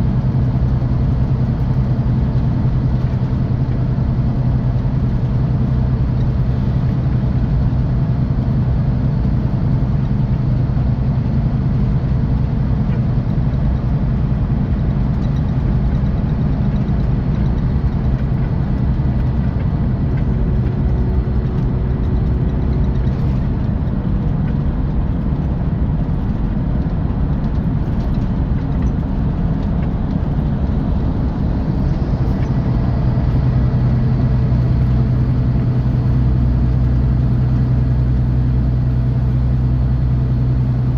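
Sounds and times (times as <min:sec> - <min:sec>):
diesel engine humming: 0:00.0 - 0:40.9
road noise: 0:00.0 - 0:40.9.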